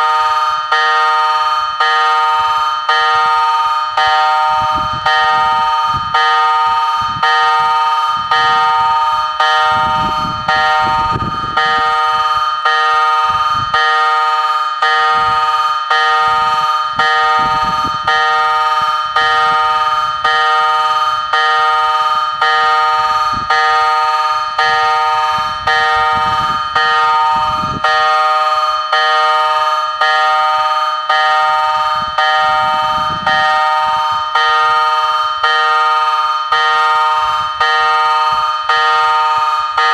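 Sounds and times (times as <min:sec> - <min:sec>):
level crossing warning bells: 0:00.0 - 0:39.9.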